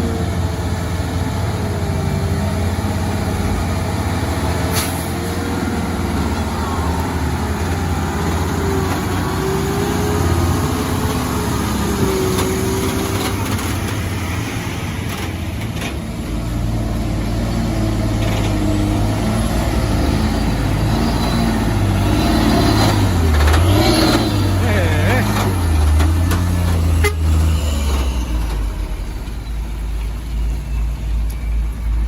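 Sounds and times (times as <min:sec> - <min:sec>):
diesel truck engine droning: 0:00.0 - 0:32.0.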